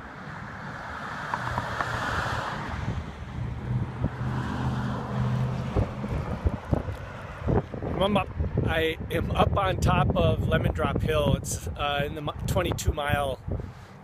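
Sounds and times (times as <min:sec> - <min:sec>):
cars passing on highway: 0:00.0 - 0:10.2, 0:11.0 - 0:14.0
wind on microphone: 0:01.3 - 0:14.0.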